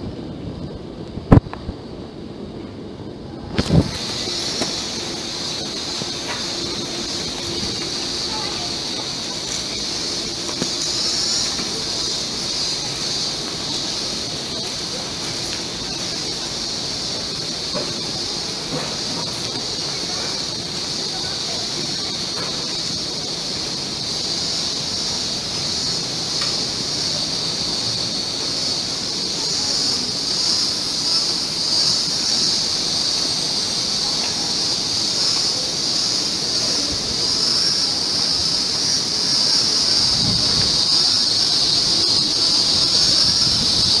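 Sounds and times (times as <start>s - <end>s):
cicadas chorus: 0.0s - 44.0s.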